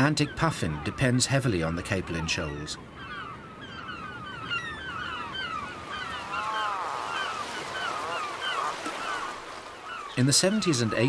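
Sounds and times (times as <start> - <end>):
sea and wind rush: 0.0 - 11.0
seabirds squeaky calls: 0.0 - 11.0.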